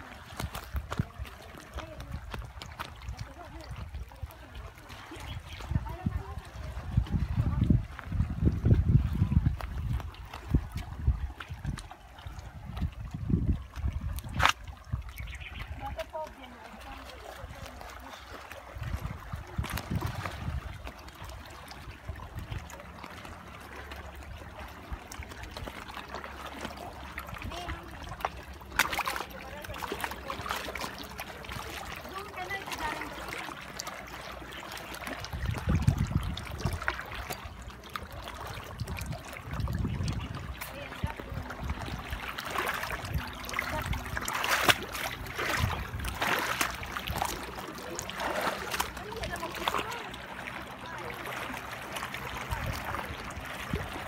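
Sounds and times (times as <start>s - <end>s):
water lapping among rocks: 0.0s - 54.0s.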